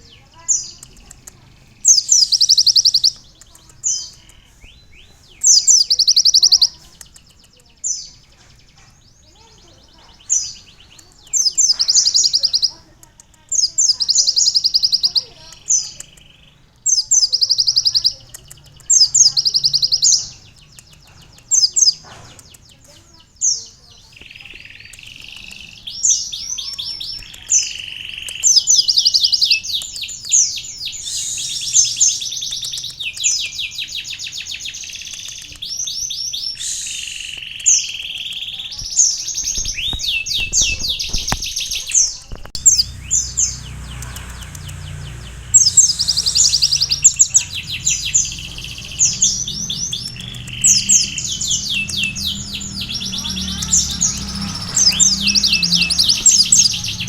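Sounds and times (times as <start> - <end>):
sunbird singing rapid trills: 0.0 - 57.0.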